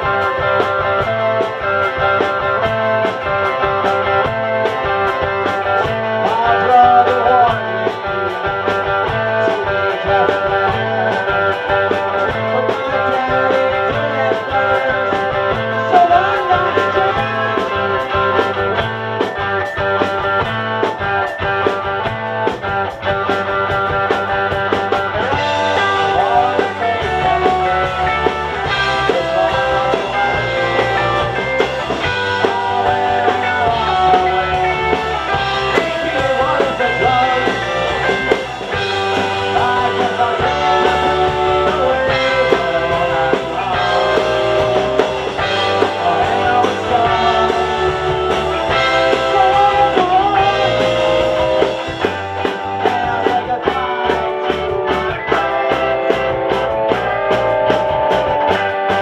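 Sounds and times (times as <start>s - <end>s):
drums: 0.0s - 59.0s
electric bass: 0.0s - 59.0s
electric guitars: 0.0s - 59.0s.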